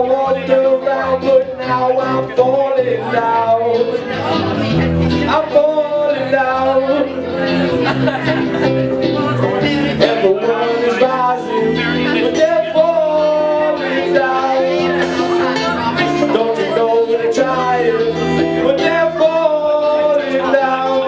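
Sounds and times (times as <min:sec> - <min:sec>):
electric bass: 0:00.0 - 0:21.0
strummed acoustic guitars: 0:00.0 - 0:21.0.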